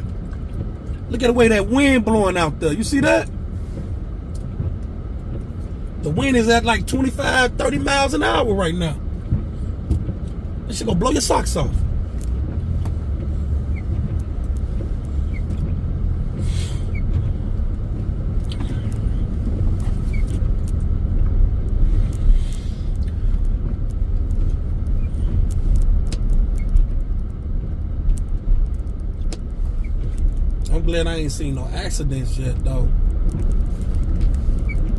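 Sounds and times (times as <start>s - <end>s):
truck driving rumble: 0.0s - 34.9s.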